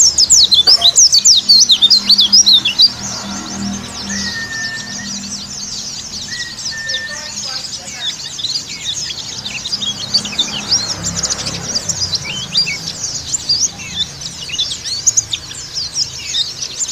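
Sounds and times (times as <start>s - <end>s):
bird twittering song: 0.0s - 16.9s.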